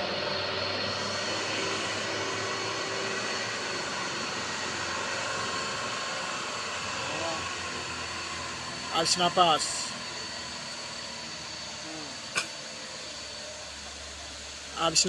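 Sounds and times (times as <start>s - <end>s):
truck engine droning uphill: 0.0s - 15.0s.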